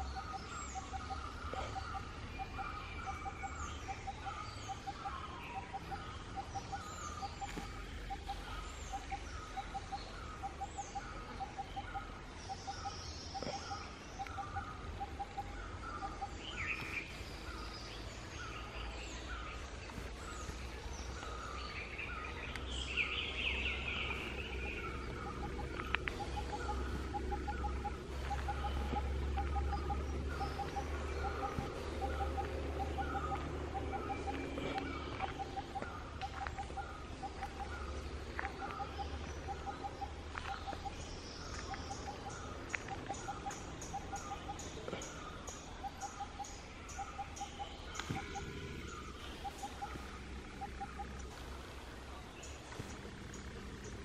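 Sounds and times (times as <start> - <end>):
forest birds calling: 0.0 - 54.0
low rumble: 0.0 - 54.0.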